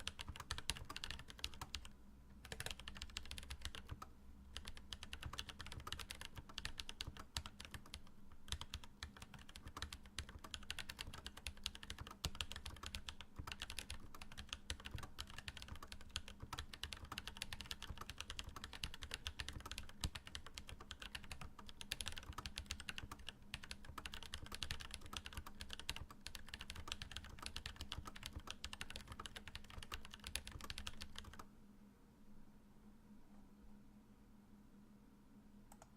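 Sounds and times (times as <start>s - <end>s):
mechanical keyboard keystroke clacks: 0.0s - 31.4s.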